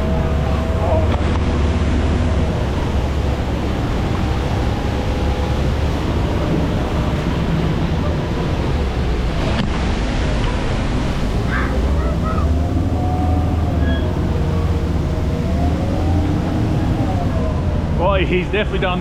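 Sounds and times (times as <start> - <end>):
boat motor running: 0.0 - 19.0
waterfall roaring: 0.0 - 19.0.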